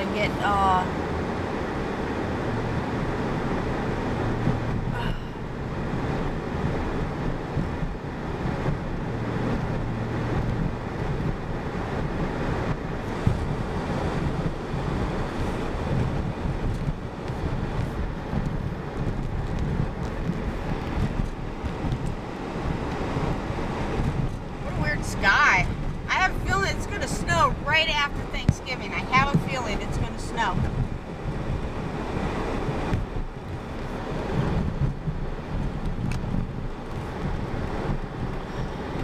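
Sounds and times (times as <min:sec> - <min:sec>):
road and engine noise in cabin: 0:00.0 - 0:39.0.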